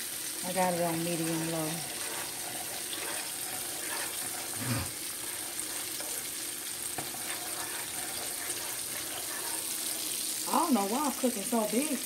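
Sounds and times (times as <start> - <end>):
chicken frying sizzle: 0.0 - 12.0
pot being stirred: 0.5 - 11.7.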